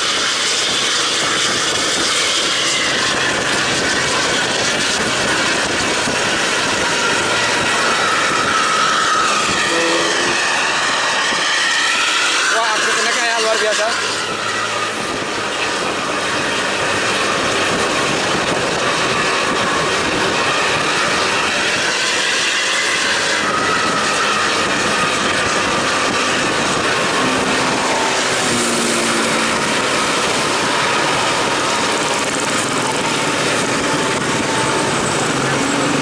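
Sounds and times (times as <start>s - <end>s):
tyres on road: 0.0s - 36.0s
vehicle engine: 0.0s - 36.0s
wind noise: 0.0s - 36.0s.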